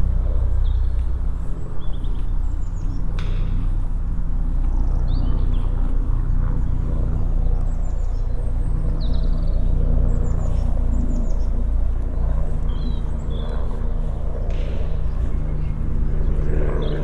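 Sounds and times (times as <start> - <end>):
low rumble with hum: 0.0 - 17.0
small birds chirping: 0.2 - 17.0.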